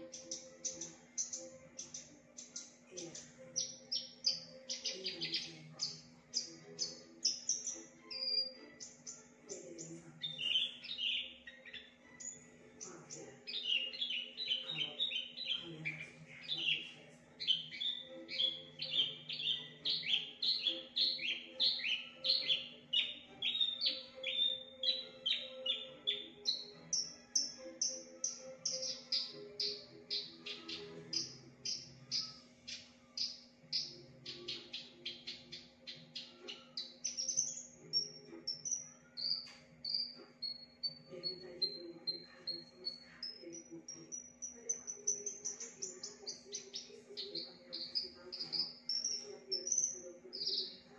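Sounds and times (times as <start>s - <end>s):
bush lark singing: 0.0s - 50.8s.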